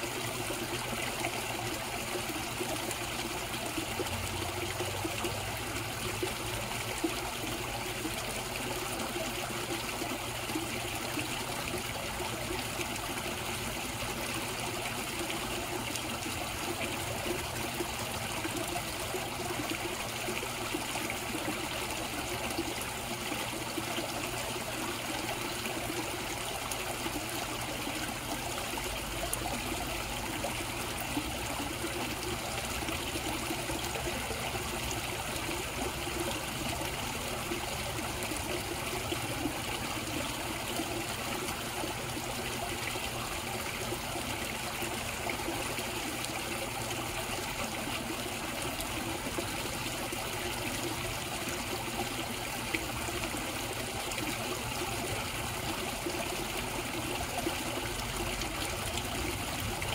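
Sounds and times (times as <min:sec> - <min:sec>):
water trickling into pond: 0:00.0 - 0:59.9.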